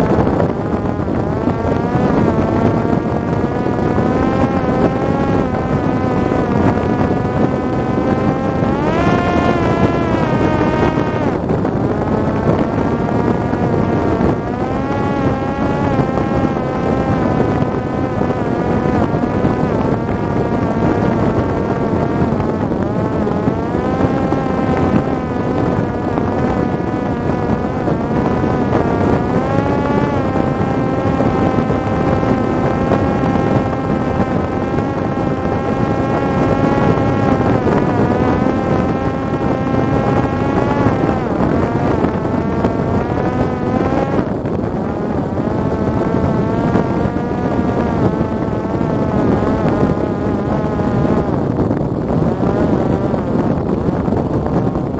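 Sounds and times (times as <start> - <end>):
drone propeller buzzing: 0.0 - 54.9
wind rushing: 0.0 - 54.9.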